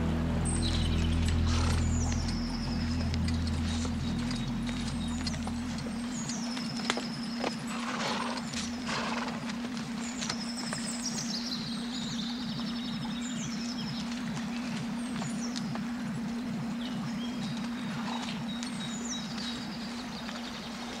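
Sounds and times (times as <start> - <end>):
birds chirping: 0.0 - 21.0
horse hooves clopping: 0.5 - 21.0.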